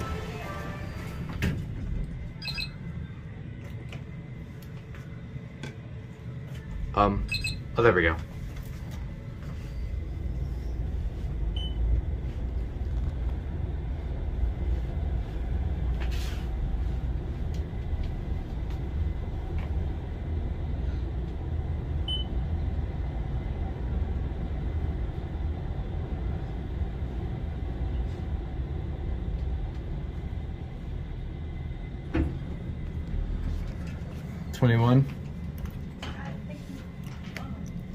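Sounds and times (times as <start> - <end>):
elevator car rumbling: 0.0 - 37.9.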